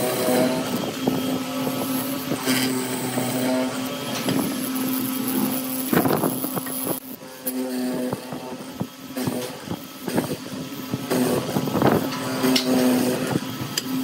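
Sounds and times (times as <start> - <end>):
mortising machine humming: 0.0 - 14.0.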